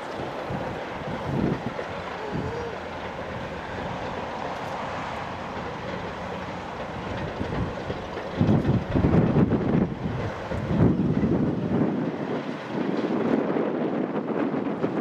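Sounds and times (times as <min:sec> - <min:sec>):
diesel locomotive rumble: 0:00.0 - 0:15.0
wind buffeting microphone: 0:00.0 - 0:15.0.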